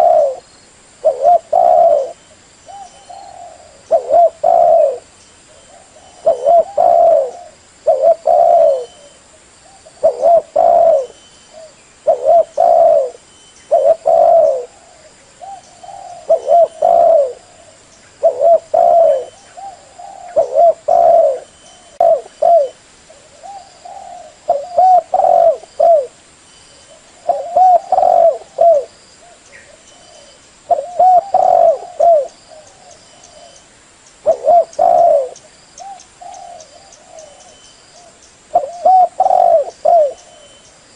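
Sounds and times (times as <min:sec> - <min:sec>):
dove cooing: 0:00.0 - 0:26.2, 0:26.9 - 0:33.6, 0:34.2 - 0:40.6.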